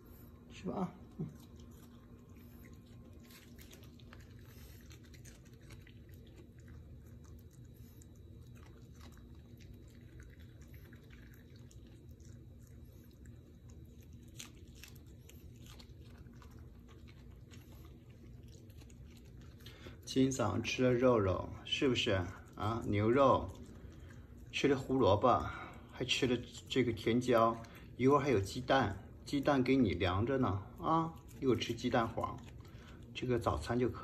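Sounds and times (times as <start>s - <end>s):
low steady hum: 0.0s - 34.0s
dog chewing crunches: 1.0s - 34.0s.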